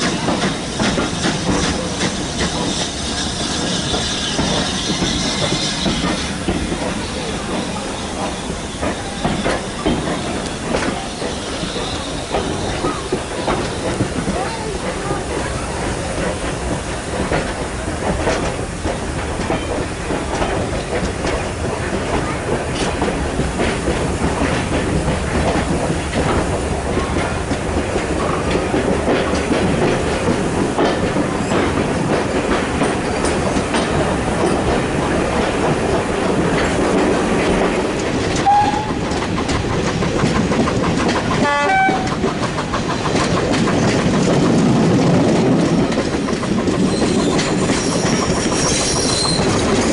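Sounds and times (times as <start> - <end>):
train wheels rumbling: 0.0 - 49.9
wheels clacking over rail joints: 0.0 - 49.9.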